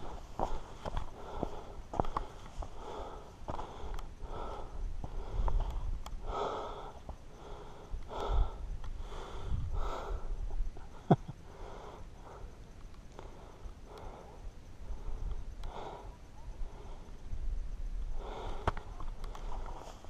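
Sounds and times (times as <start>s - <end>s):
person breathing hard: 0.0s - 17.2s, 18.1s - 19.9s.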